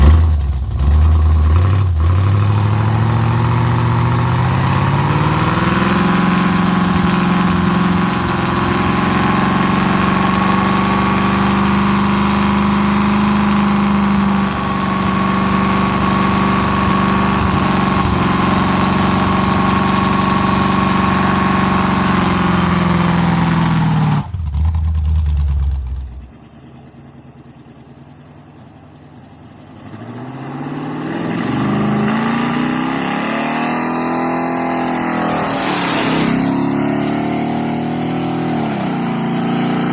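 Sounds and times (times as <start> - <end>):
engine revving: 0.0 - 26.3, 30.0 - 39.9.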